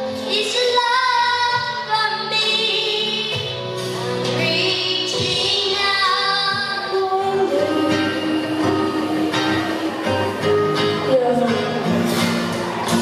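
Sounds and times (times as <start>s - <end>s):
backing music: 0.0s - 13.0s.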